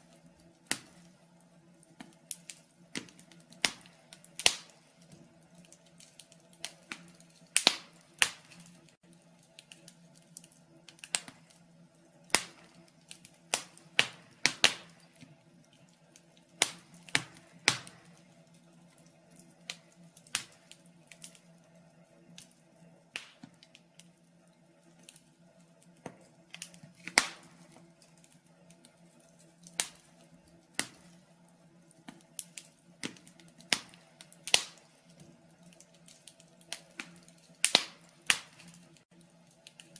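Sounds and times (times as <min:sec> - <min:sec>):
faint steady hum: 0:00.0 - 0:39.9
fire crackling: 0:00.0 - 0:39.9.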